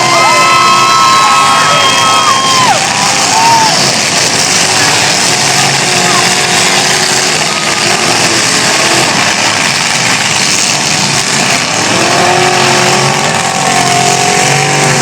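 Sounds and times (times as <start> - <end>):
car engines running loud: 0.0 - 15.0
engine revving up: 0.0 - 15.0.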